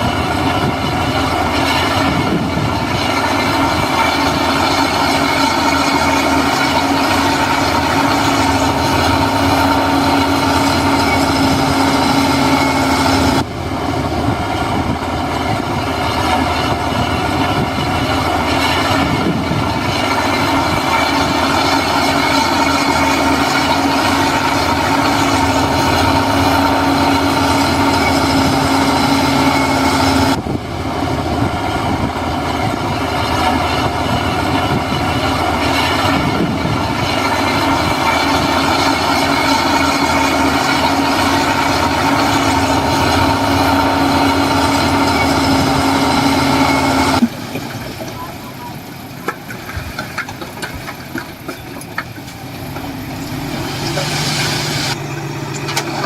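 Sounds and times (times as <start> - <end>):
diesel engine with mechanical clatter: 0.0 - 56.0.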